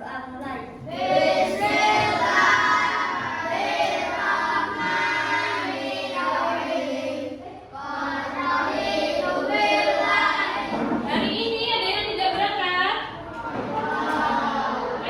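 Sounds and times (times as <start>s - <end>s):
children singing together: 0.8s - 11.3s, 13.3s - 15.0s.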